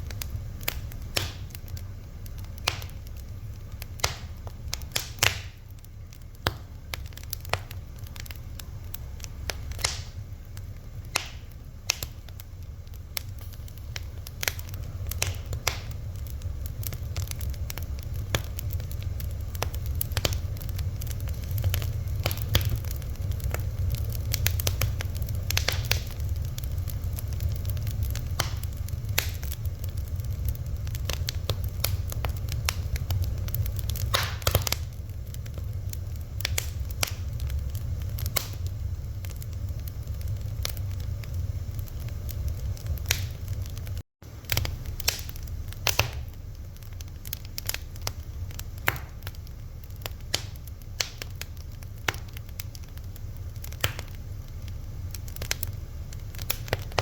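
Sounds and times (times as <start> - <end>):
fire crackling and popping: 0.0 - 57.0
low rumble: 0.0 - 57.0.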